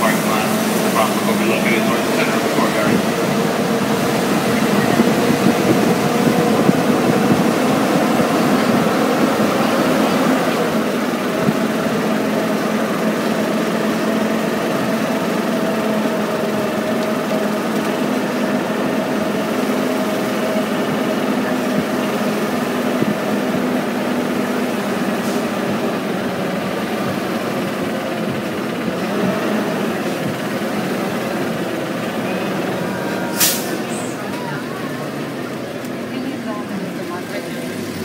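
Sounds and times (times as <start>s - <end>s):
tram drive hum: 0.0s - 38.0s.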